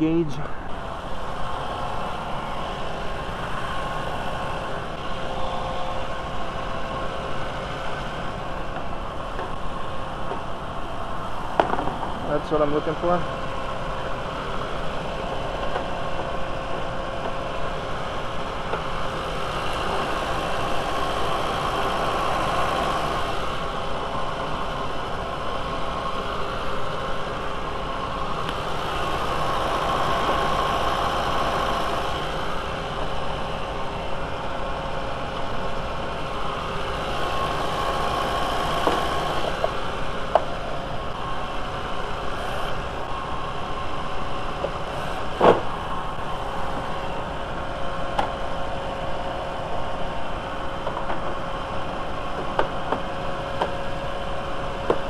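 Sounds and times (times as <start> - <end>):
car engine idling: 0.0 - 55.0
engine whine: 0.0 - 55.0.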